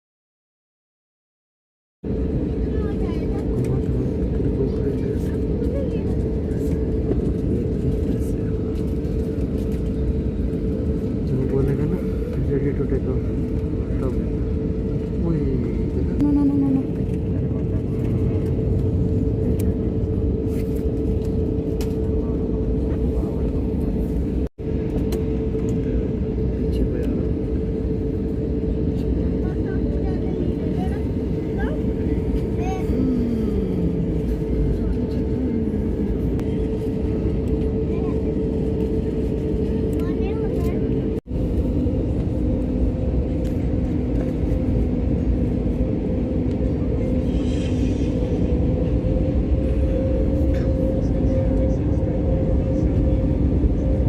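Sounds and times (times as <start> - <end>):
constant hum: 2.0 - 54.0
jet engines and airflow rumble: 2.0 - 54.0.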